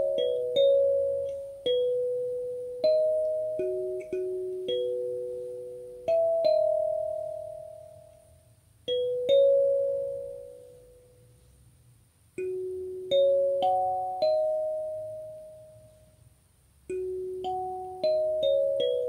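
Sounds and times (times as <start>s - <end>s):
kalimba notes plucked: 0.0s - 11.0s, 12.4s - 15.9s, 16.9s - 19.0s.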